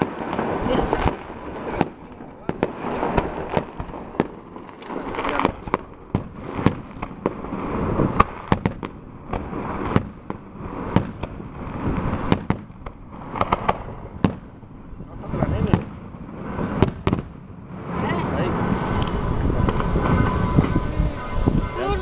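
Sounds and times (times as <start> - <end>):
fireworks bangs and crackle: 0.0 - 22.0.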